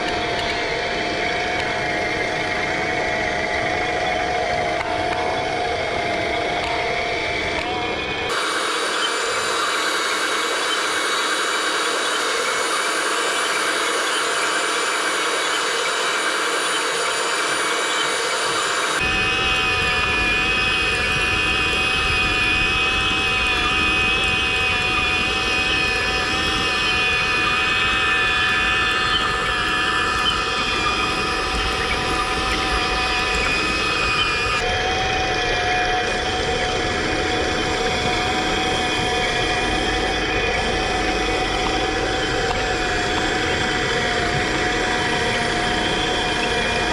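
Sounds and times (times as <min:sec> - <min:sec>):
electric motors whirring: 0:07.6 - 0:46.9.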